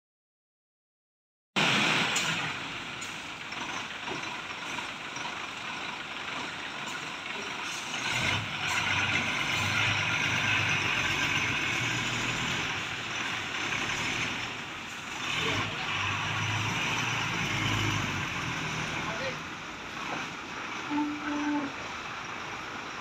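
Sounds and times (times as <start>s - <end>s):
lorry diesel engine running: 1.6s - 23.0s.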